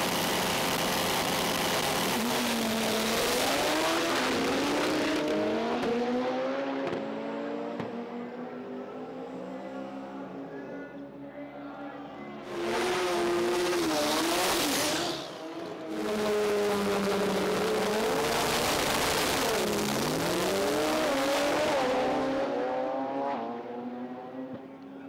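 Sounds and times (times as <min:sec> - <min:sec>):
race car engines at full throttle: 0:00.0 - 0:25.0.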